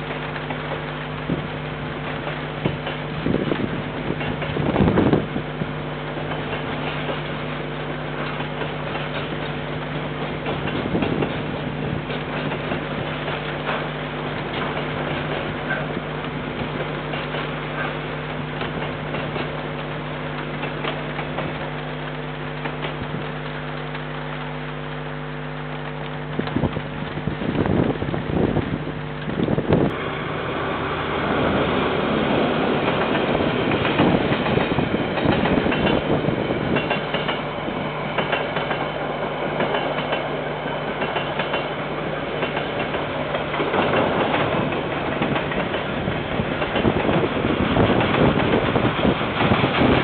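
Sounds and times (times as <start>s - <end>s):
wind gusts: 0.0s - 21.8s, 26.2s - 50.0s
distant freight train rumbling: 0.0s - 50.0s.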